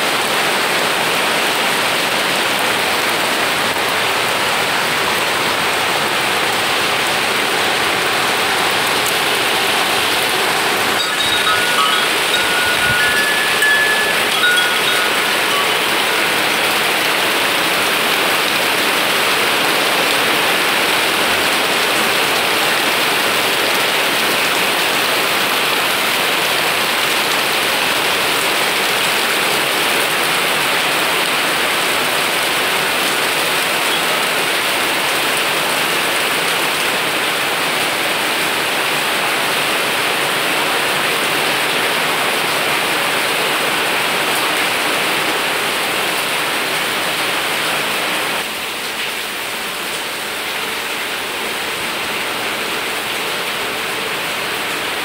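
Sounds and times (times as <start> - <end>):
steady rain pouring: 0.0 - 55.0.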